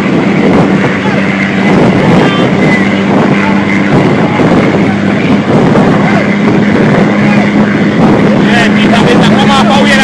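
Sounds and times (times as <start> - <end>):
diesel truck engine drone: 0.0 - 10.0
road noise: 0.0 - 10.0.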